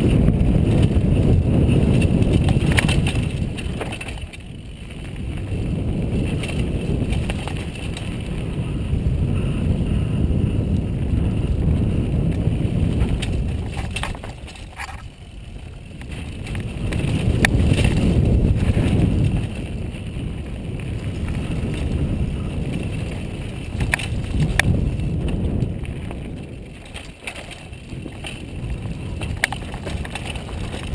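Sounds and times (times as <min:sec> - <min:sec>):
tyre rumble on dirt: 0:00.0 - 0:08.4, 0:11.3 - 0:30.9
bike clicks and rattles: 0:00.0 - 0:30.9
wind buffeting microphone: 0:00.0 - 0:30.9.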